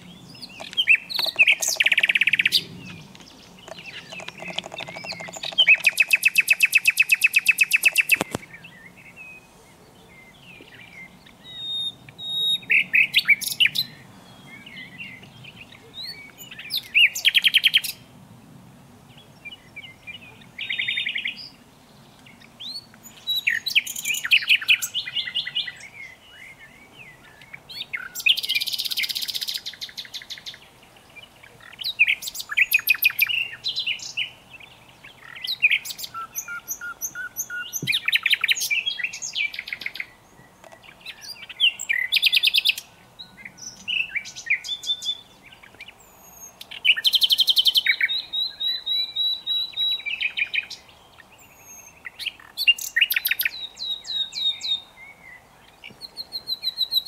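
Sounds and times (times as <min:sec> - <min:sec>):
nightingale singing: 0:00.0 - 0:18.1, 0:19.2 - 0:57.0.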